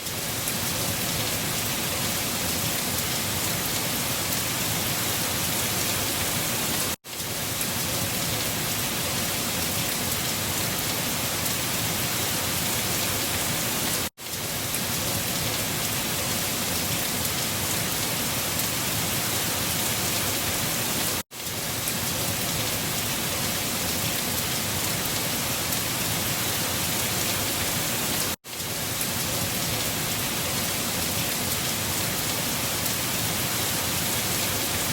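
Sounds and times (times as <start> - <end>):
wind-driven rain: 0.0 - 34.9.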